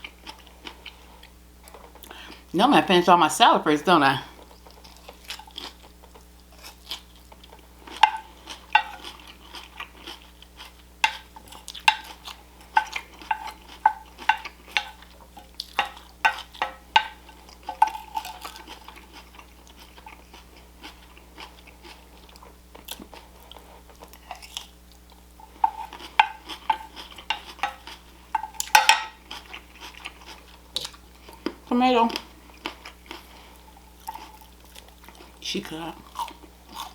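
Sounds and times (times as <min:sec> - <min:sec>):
chewing and crunching salad: 0:00.0 - 0:02.5, 0:04.0 - 0:36.9.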